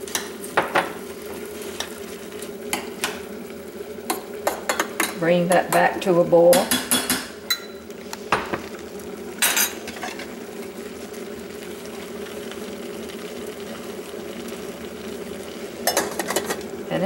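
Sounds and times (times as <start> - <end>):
water boiling in a saucepan: 0.0 - 17.0.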